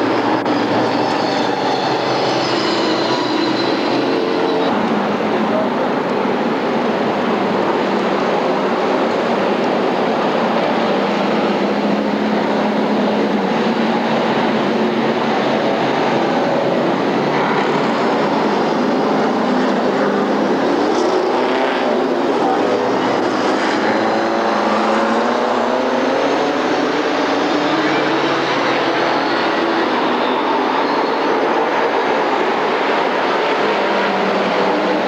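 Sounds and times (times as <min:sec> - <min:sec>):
stock car engines racing: 0:00.0 - 0:35.0.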